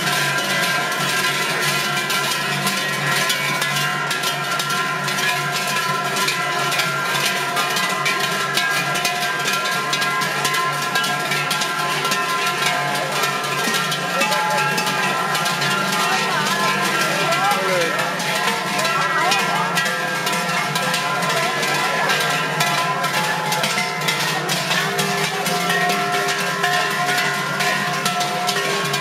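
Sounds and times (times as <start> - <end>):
large bells ringing together: 0.0 - 29.0.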